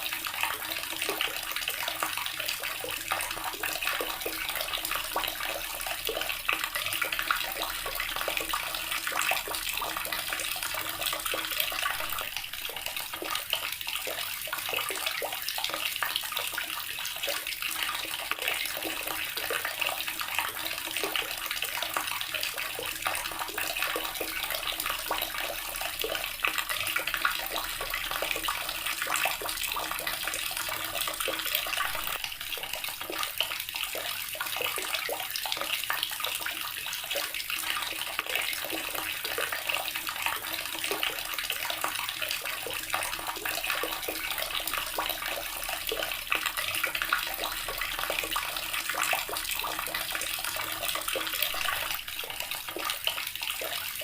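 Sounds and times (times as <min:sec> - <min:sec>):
tap water splashing into basin: 0:00.0 - 0:54.0.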